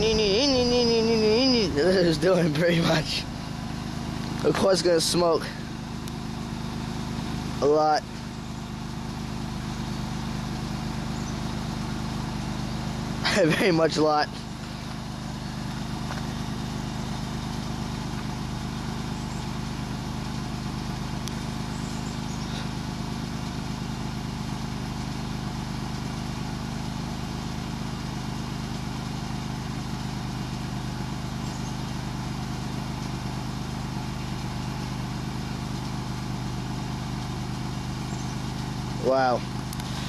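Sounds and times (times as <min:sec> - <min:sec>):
minivan engine idling: 0:00.0 - 0:40.0.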